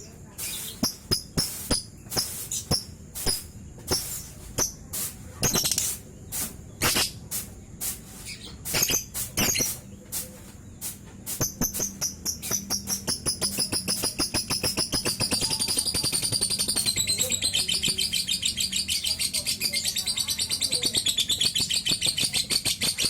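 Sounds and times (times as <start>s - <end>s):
lovebird chirping and trilling: 0.0s - 4.8s, 5.4s - 6.0s, 6.7s - 7.2s, 8.2s - 9.8s, 11.4s - 23.0s.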